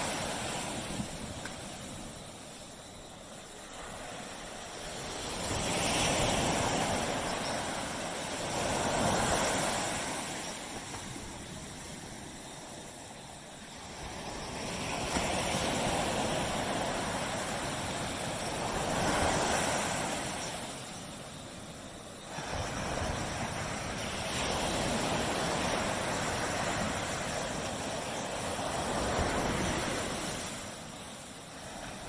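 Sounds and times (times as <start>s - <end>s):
waves breaking on a beach: 0.0s - 32.0s.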